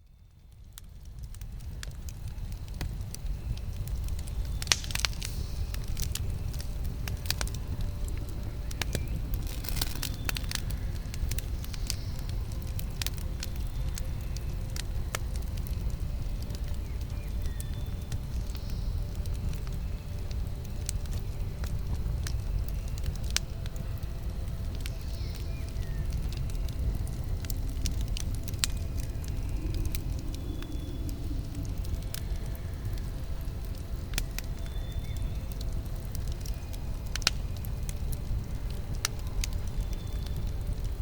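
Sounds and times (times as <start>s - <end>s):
burning wood crackling and popping: 0.0s - 41.0s
low rumble of campfire: 0.0s - 41.0s.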